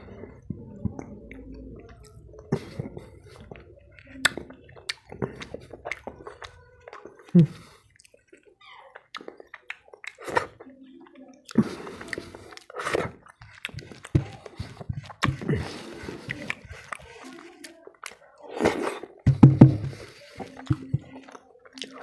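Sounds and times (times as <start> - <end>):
chewing and lip smacks: 0.1 - 19.3, 19.9 - 22.0
fingers squelching food: 0.1 - 22.0.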